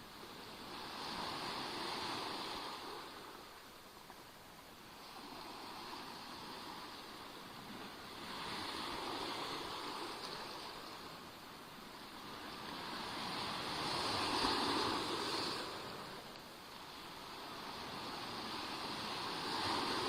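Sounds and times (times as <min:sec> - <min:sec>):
waves splashing on shore: 0:00.0 - 0:20.0.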